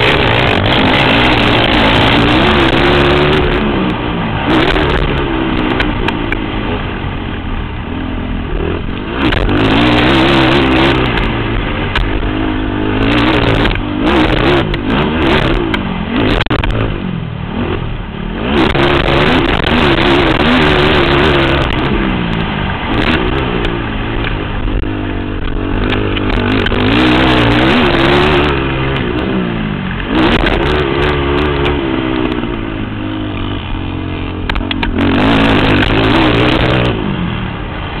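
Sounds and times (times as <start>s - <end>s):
quad engine revving hard: 0.0s - 7.0s, 8.1s - 37.9s.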